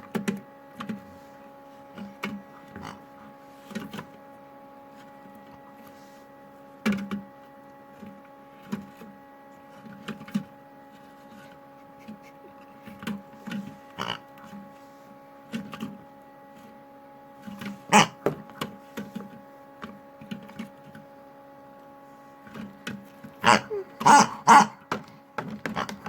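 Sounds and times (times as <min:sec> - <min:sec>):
washing machine hum: 0:00.0 - 0:26.0.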